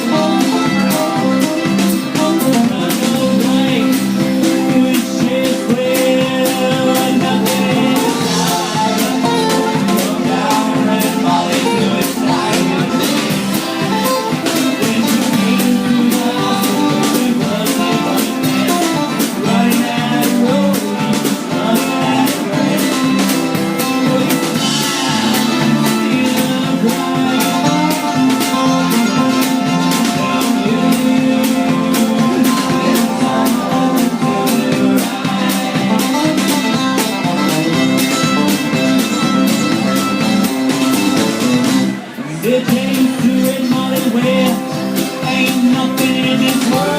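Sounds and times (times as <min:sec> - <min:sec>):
live band instrumental music: 0:00.0 - 0:46.9.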